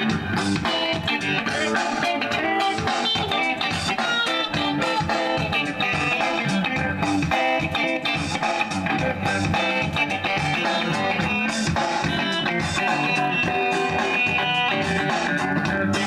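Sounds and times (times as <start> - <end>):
electric guitar playing: 0.0 - 16.0.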